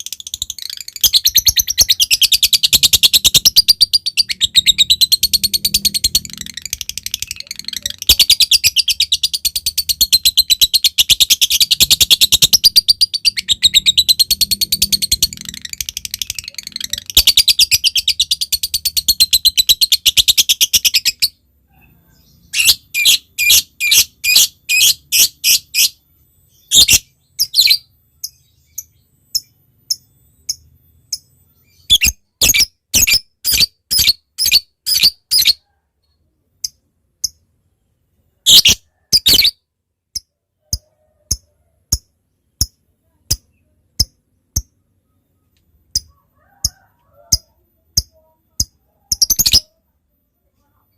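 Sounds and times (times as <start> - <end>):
lovebird chattering and chirping: 0.0 - 35.7, 38.4 - 49.8.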